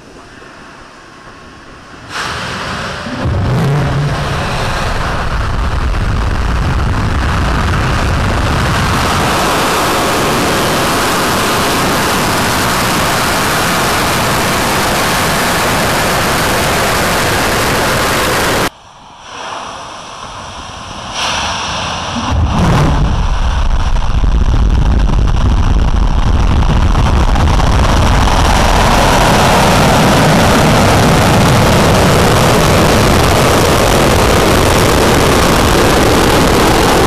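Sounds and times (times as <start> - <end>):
crackling rocket roar: 1.3 - 37.0.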